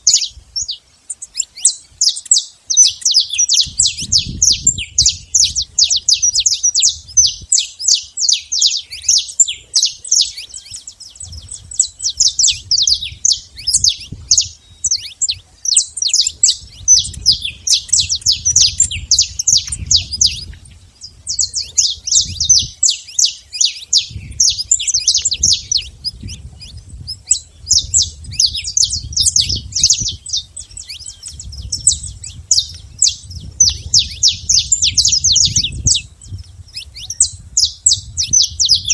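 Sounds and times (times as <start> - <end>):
finches chirping: 0.0 - 38.9.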